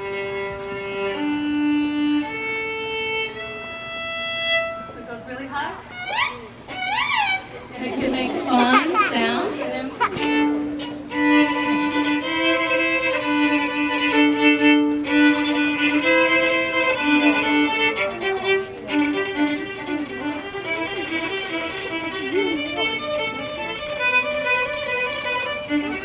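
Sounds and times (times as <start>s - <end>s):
solo violin slow melody: 0.0s - 26.0s.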